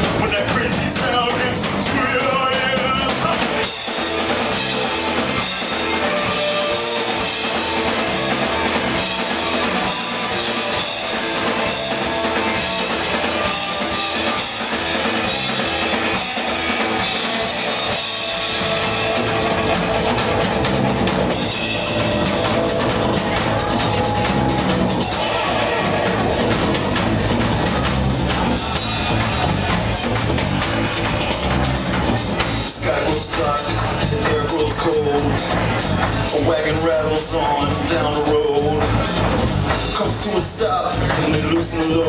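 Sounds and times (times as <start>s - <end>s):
bass guitar: 0.0s - 42.0s
drum kit beat: 0.0s - 42.0s
electric guitar: 0.0s - 42.0s.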